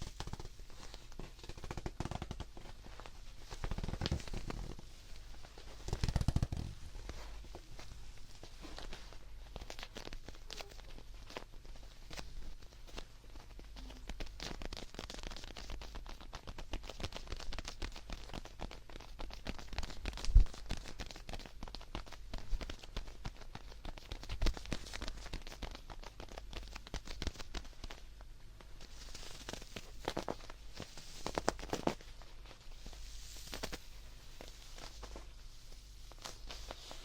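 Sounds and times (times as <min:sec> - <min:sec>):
rustling and scratching handling: 0:00.0 - 0:37.0.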